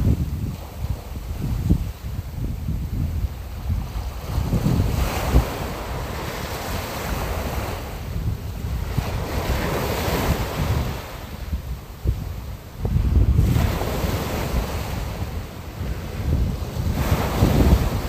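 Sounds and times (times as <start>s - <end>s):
sea surf washing in: 0.0s - 18.0s
wind rumble on microphone: 0.0s - 18.0s.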